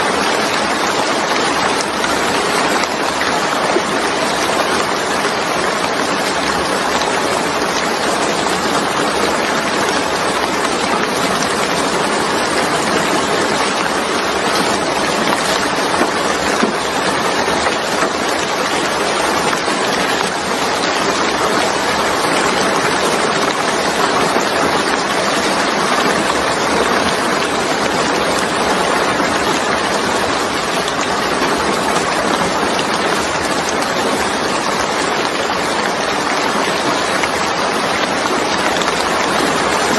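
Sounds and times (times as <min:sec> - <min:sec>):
rain on wet ground: 0:00.0 - 0:39.9.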